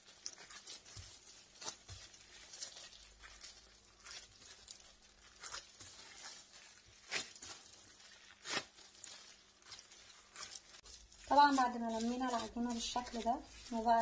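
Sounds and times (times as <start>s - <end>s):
dough being kneaded: 0.0s - 14.0s
dough slapping on countertop: 0.0s - 14.0s.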